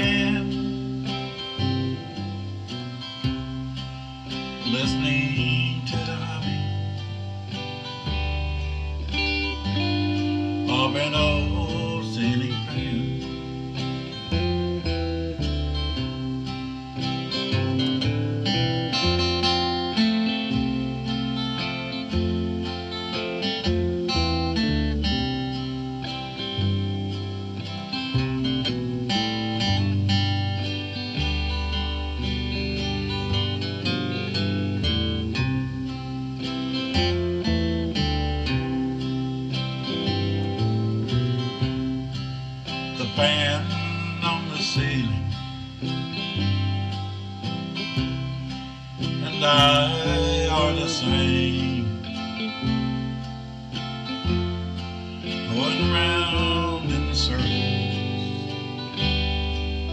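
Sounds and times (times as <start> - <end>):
acoustic guitar: 0.0 - 59.9
bass guitar: 0.0 - 59.9
electric guitar: 0.0 - 59.9.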